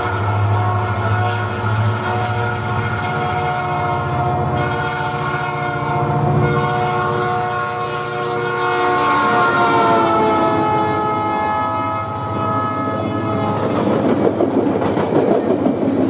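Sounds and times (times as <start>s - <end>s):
locomotive air horn chord: 0.0s - 13.9s
locomotive engines rumbling: 0.0s - 16.0s.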